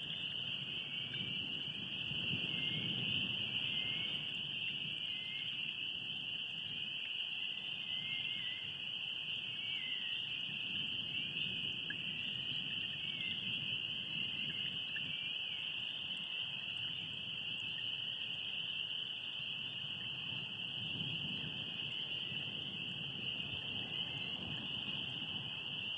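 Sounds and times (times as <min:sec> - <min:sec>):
frogs or insects chorus: 0:00.0 - 0:25.9.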